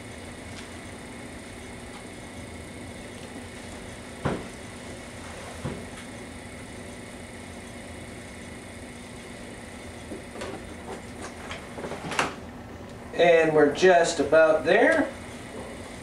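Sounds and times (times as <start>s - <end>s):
potter's wheel motor humming: 0.0s - 16.0s.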